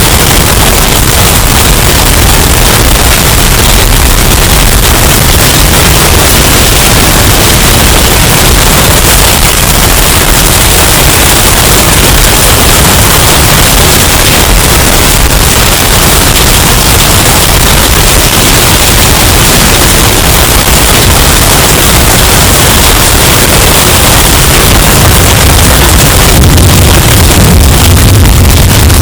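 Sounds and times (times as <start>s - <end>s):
distorted hurricane wind: 0.0s - 29.0s.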